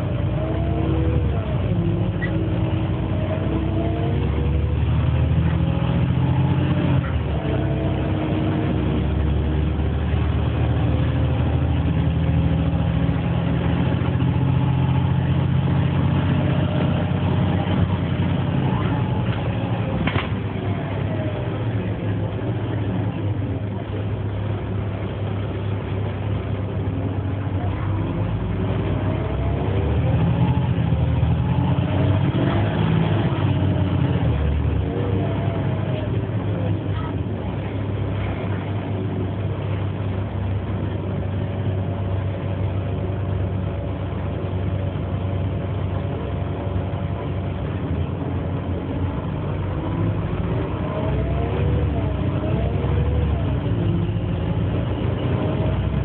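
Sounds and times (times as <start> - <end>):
diesel engine rumbling: 0.0 - 56.0
drivetrain whine: 0.0 - 56.0.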